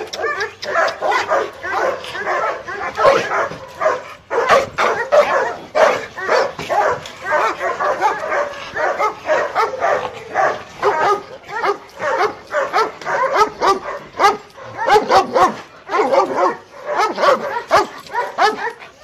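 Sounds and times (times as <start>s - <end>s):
dogs barking and yipping: 0.0s - 19.0s.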